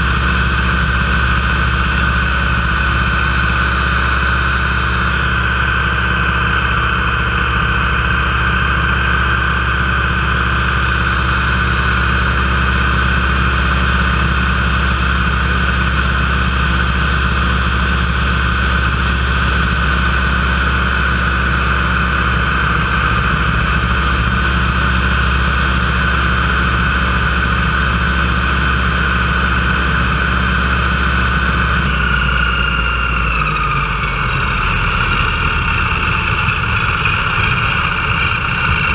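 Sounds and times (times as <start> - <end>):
aircraft engine droning in flight: 0.0 - 38.9.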